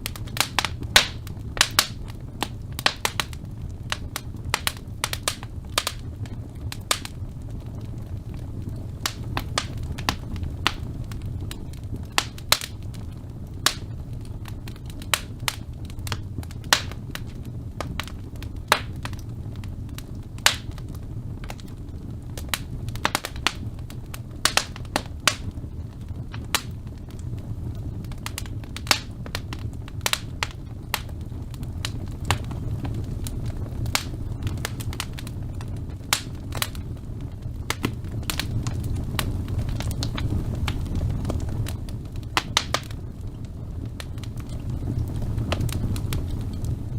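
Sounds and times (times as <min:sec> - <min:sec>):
fire crackling and popping: 0:00.0 - 0:46.9
fire rumbling: 0:00.0 - 0:46.9.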